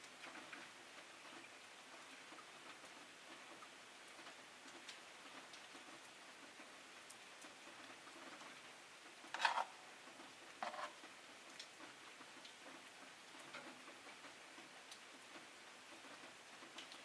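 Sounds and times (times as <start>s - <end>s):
faint ticks and clicks: 0.0s - 9.2s, 10.0s - 17.0s.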